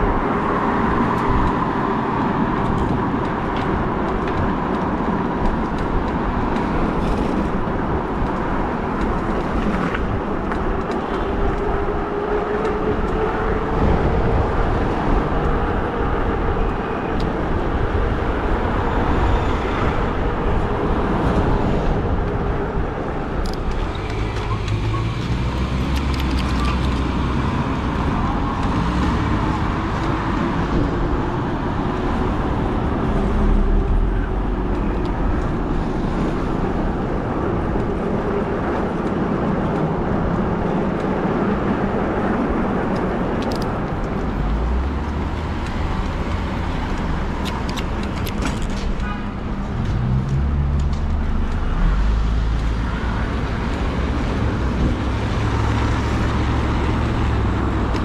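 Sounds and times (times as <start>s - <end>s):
cars passing: 0.0s - 58.0s
tyre and wind rumble: 0.0s - 58.0s.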